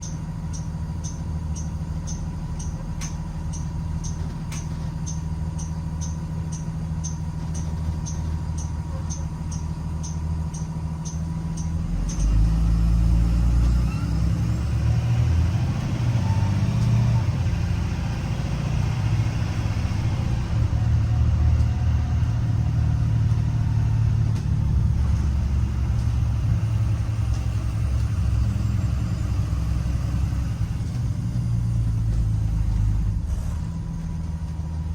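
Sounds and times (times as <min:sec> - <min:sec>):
bus engine idling and driving: 0:00.0 - 0:34.9.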